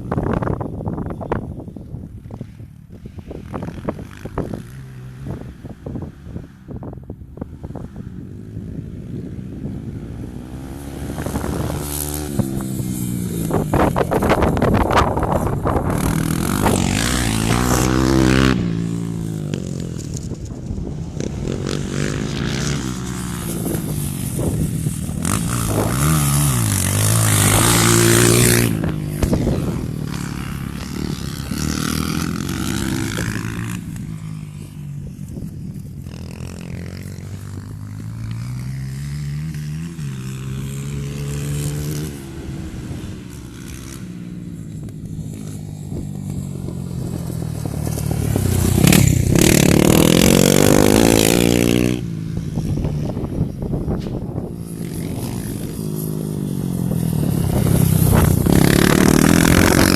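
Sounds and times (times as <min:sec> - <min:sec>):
dirt bike engine revving: 0:07.7 - 0:20.4, 0:21.1 - 0:34.8, 0:36.1 - 0:59.9.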